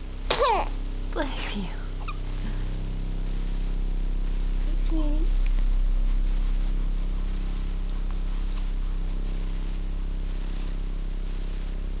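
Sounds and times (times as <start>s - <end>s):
vibration motor humming: 0.0s - 12.0s.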